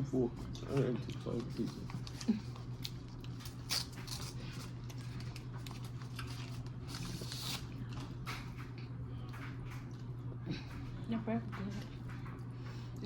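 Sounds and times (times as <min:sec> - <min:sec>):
steady low hum: 0:00.0 - 0:13.0
chewing and mouth sounds: 0:00.5 - 0:13.0.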